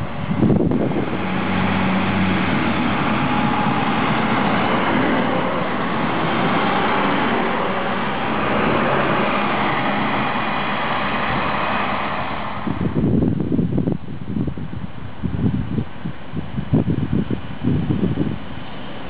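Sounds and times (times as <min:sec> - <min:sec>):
railcar diesel engine running: 0:00.0 - 0:19.0.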